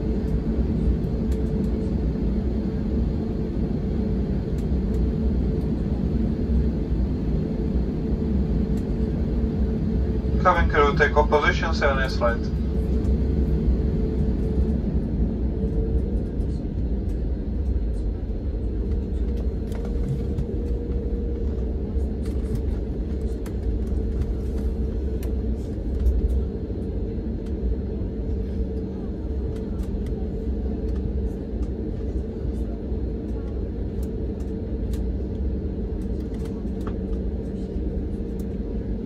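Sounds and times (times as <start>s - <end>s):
low rumble of taxiing airliner: 0.0s - 39.0s
steady cabin hum: 0.0s - 39.0s.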